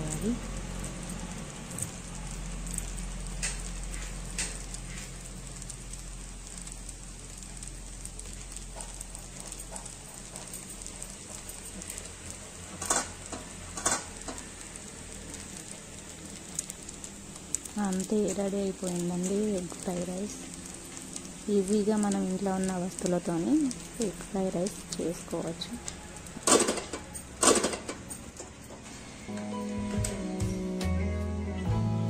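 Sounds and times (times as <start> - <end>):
rice crackling in a pot: 0.0 - 29.4.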